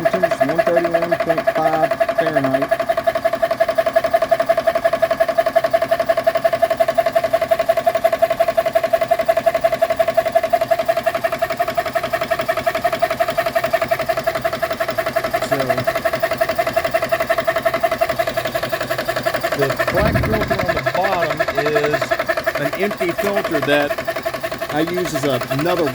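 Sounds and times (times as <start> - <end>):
air compressor humming and pulsing: 0.0 - 25.9.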